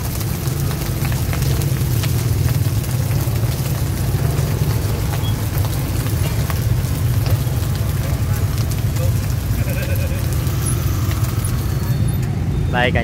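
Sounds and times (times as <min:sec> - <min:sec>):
light crackles: 0:00.0 - 0:12.5
rice cakes sizzling in oil: 0:00.0 - 0:12.6.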